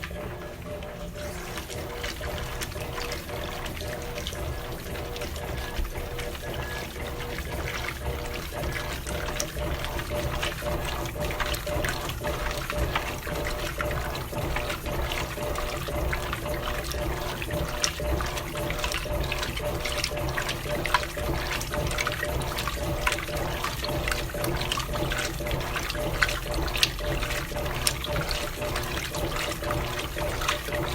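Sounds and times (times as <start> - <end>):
washing machine motor hum: 0.0 - 30.9
water sloshing in washing machine: 0.0 - 30.9.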